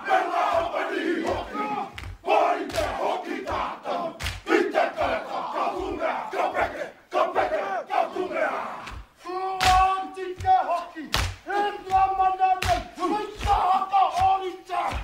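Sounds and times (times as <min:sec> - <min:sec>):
men chanting and shouting in unison: 0:00.0 - 0:15.0.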